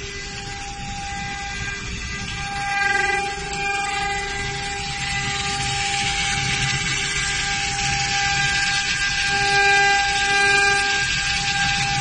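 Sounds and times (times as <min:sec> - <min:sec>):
cutting hiss: 0:00.0 - 0:12.0
router spindle whine: 0:00.0 - 0:12.0.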